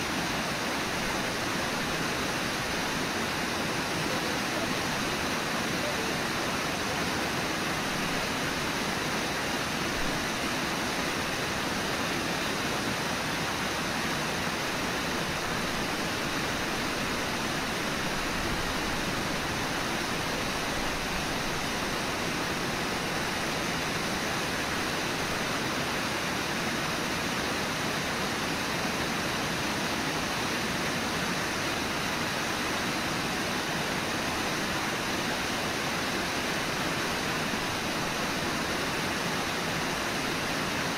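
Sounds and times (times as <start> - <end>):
whitewater rushing: 0.0 - 40.9.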